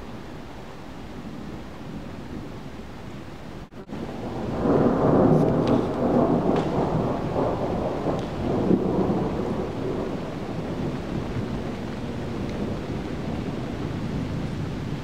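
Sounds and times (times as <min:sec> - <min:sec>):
rain hiss: 0:00.0 - 0:15.0
thunder rumbling: 0:01.1 - 0:15.0.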